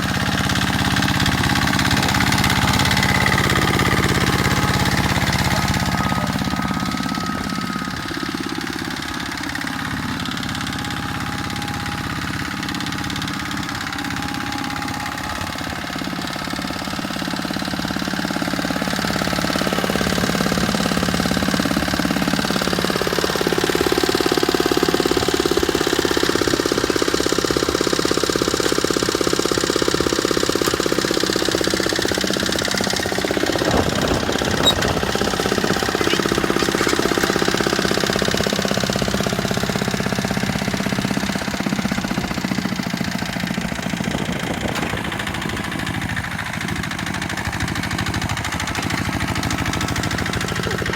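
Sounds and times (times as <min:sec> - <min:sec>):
tractor engine knocking: 0:00.0 - 0:50.9.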